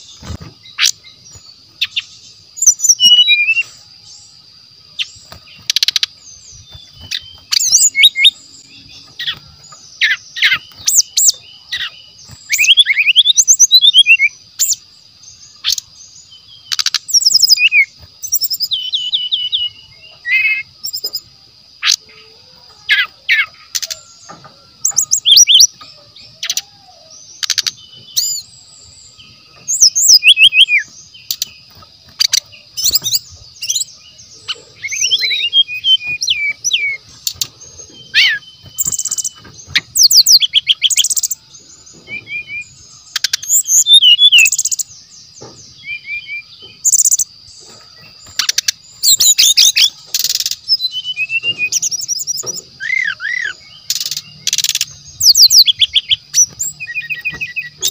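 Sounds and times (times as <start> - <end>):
bird singing chirps and whistles: 0.0 - 57.9.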